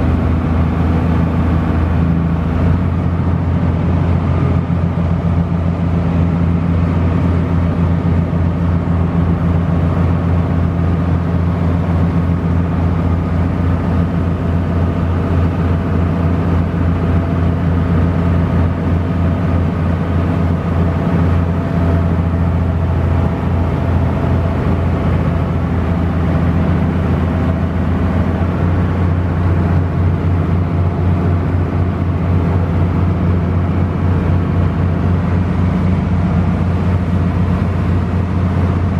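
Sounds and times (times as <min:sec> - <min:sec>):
boat diesel engine drone: 0:00.0 - 0:38.9.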